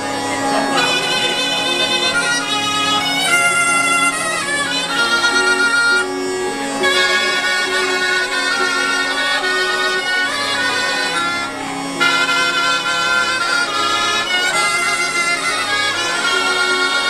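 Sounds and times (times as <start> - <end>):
bagpipe folk music: 0.0 - 17.0.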